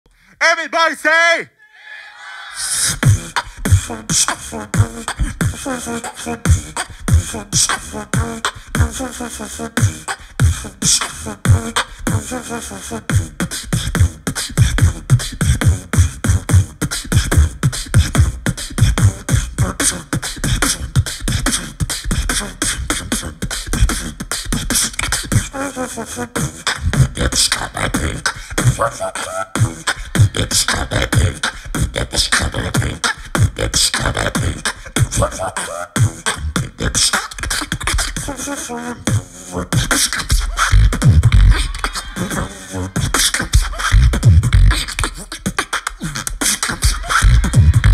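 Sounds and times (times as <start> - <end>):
pitched vocal lines: 0.3 - 15.0, 18.8 - 47.9
beatboxing into microphone: 2.6 - 47.9.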